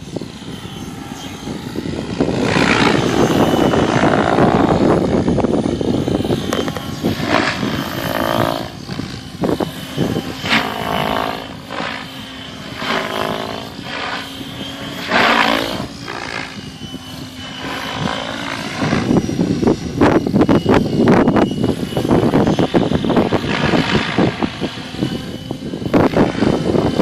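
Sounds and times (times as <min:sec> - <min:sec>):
model helicopter rotor whining: 0:00.0 - 0:27.0.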